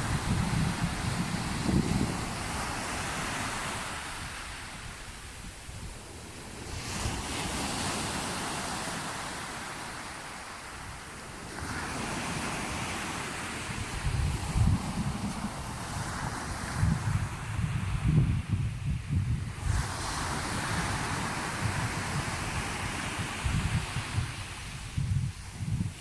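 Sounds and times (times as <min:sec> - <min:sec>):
wind buffeting microphone: 0:00.0 - 0:09.4, 0:11.4 - 0:26.0
sea waves washing in: 0:00.0 - 0:18.5, 0:19.3 - 0:26.0.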